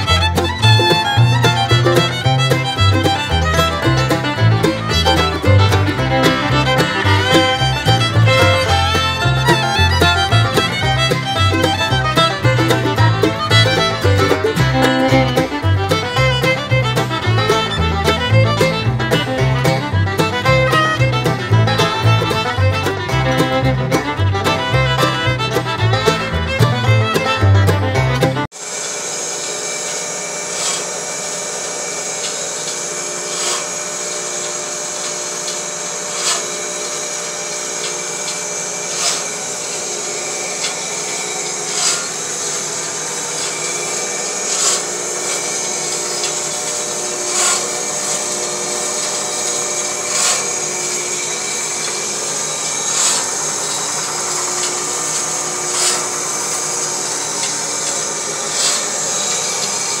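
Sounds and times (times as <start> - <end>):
band saw running: 0.0 - 60.0.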